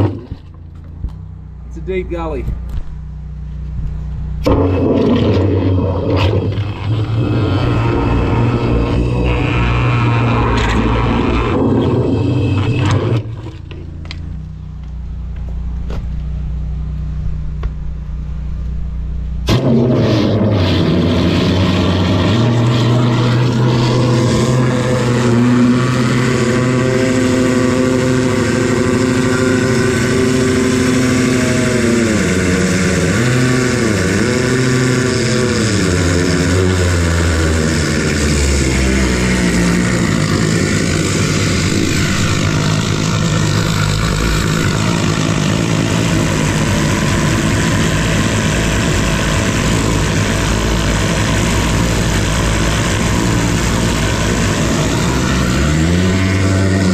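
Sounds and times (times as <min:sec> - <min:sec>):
drain jetter engine running: 0:00.0 - 0:17.7, 0:19.2 - 0:56.9.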